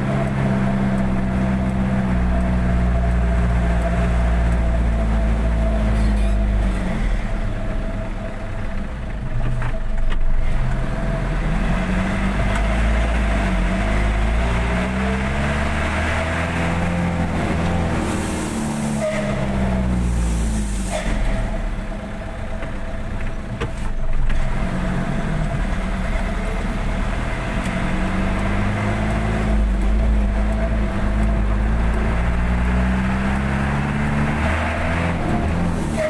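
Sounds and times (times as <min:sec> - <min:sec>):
truck engine revving: 0:00.0 - 0:09.3, 0:10.3 - 0:23.2, 0:24.2 - 0:36.0.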